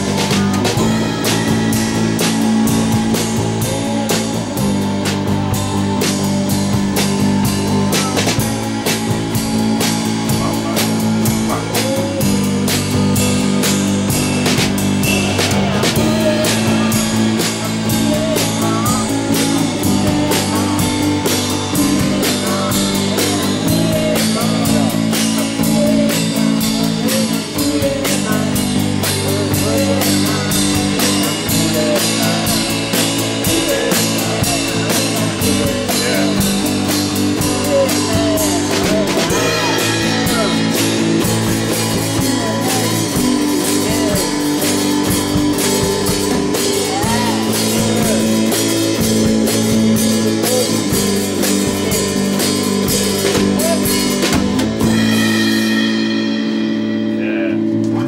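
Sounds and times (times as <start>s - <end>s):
man singing: 0.0s - 55.4s
drum kit with cymbals: 0.0s - 58.0s
electric guitar chords: 0.0s - 58.0s.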